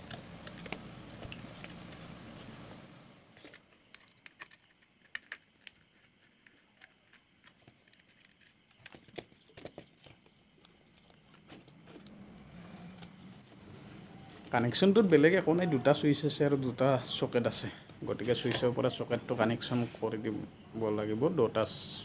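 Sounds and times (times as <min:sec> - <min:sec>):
cricket trill: 0:00.0 - 0:22.0.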